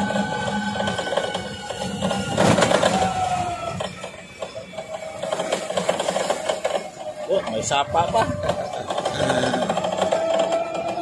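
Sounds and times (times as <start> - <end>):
motor humming with rhythmic chatter: 0.0 - 11.0.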